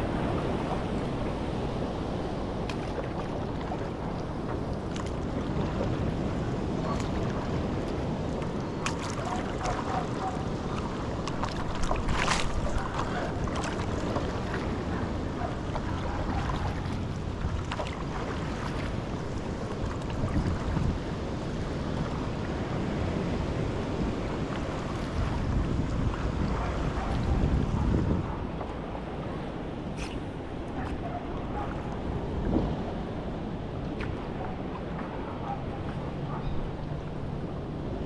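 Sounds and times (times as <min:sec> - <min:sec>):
paddle splashing water: 0:00.0 - 0:32.8
wind buffeting microphone: 0:00.0 - 0:38.0.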